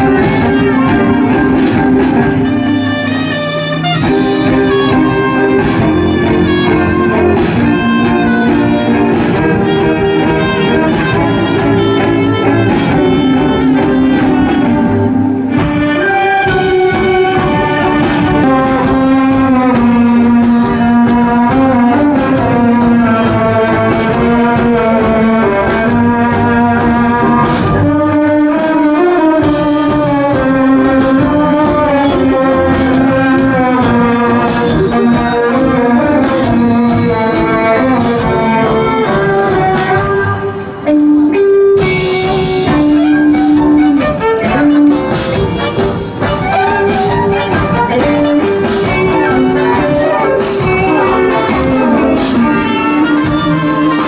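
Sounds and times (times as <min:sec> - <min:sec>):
loud music with held melody: 0:00.0 - 0:54.0.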